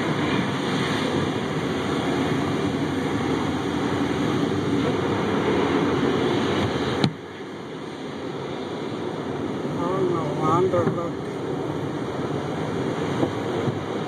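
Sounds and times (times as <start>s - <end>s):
car wash blower dryers: 0.0s - 14.0s.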